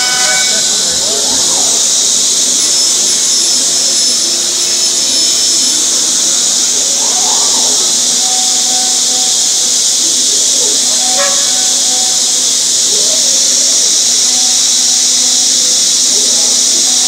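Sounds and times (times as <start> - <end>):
machine airy hiss: 0.0 - 17.0
thin high whine: 0.0 - 17.0.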